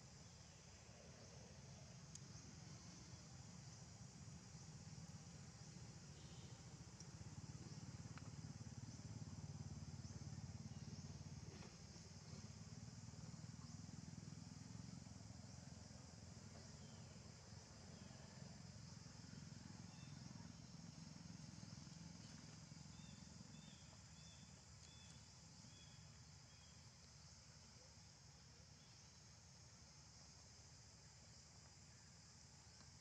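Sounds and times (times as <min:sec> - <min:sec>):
faint chirps: 0:00.0 - 0:33.0
high insect drone: 0:00.0 - 0:33.0.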